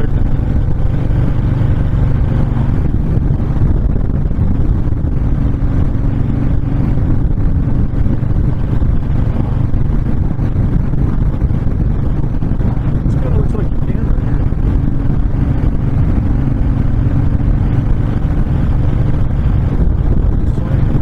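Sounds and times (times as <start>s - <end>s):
motorcycle engine running: 0.0s - 21.0s
wind rushing past microphone: 0.0s - 21.0s.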